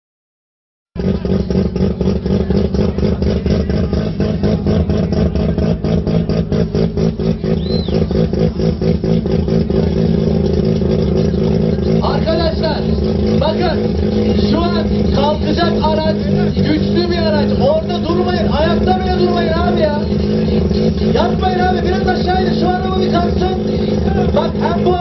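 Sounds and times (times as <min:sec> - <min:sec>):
car engine idling roughly: 0:01.0 - 0:25.0.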